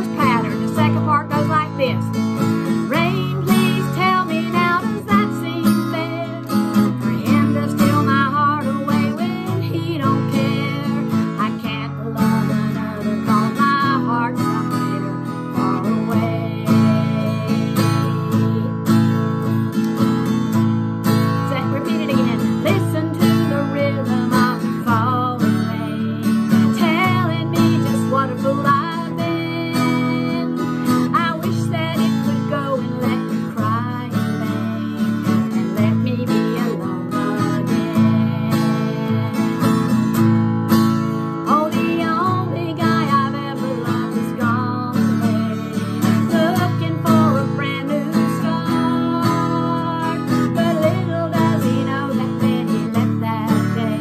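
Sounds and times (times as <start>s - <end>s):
acoustic guitar strumming: 0.0s - 54.0s
woman singing: 0.0s - 54.0s.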